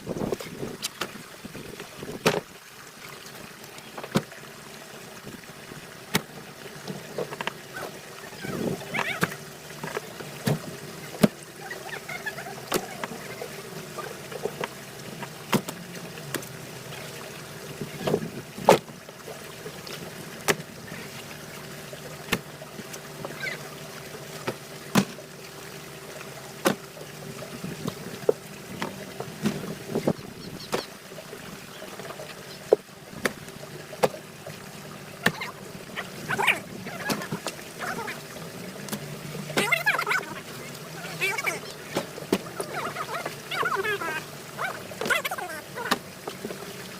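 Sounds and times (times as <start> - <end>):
boat engine running: 0.0 - 2.6, 3.2 - 46.9.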